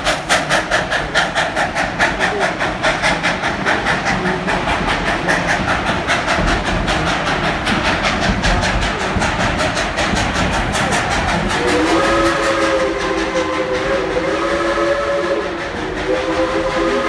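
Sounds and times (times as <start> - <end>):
steam locomotive exhaust chuffs: 0.0 - 17.0.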